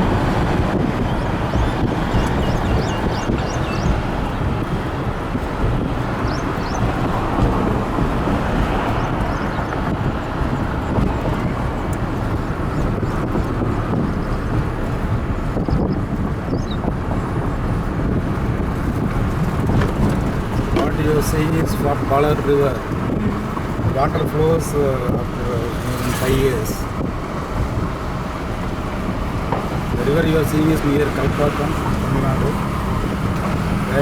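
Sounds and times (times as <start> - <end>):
steady rushing noise: 0.0 - 34.0
wind buffeting microphone: 0.0 - 34.0.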